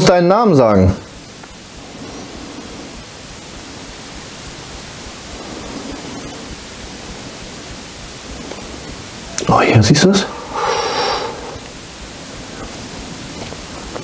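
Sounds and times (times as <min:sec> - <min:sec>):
faint hum: 0:00.0 - 0:14.0
static hiss: 0:00.0 - 0:14.0.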